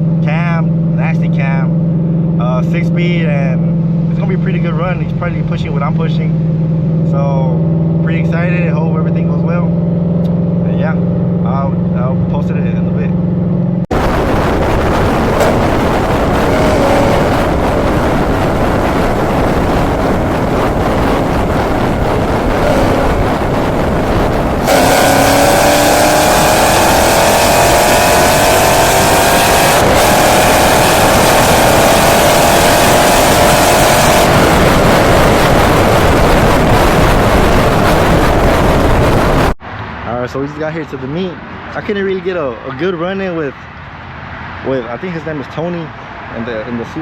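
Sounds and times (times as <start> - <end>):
car engine accelerating: 0.0 - 39.8
road noise: 0.0 - 47.0.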